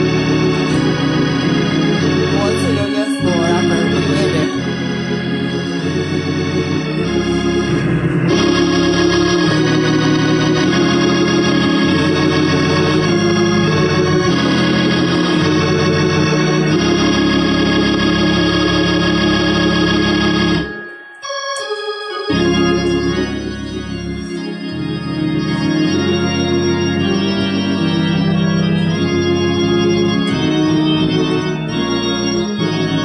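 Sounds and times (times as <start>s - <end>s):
electric organ playing chords: 0.0s - 33.0s.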